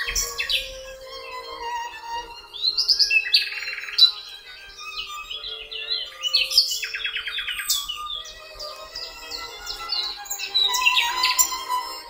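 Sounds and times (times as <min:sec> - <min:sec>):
birdsong chirps and trills: 0:00.0 - 0:12.0
soft background music: 0:00.0 - 0:12.0.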